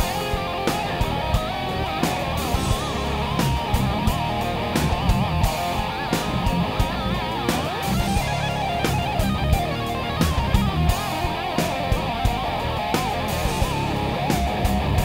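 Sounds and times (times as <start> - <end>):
heavy instrumental rock on guitars: 0.0 - 15.0
steady beat of sharp hits: 0.0 - 15.0.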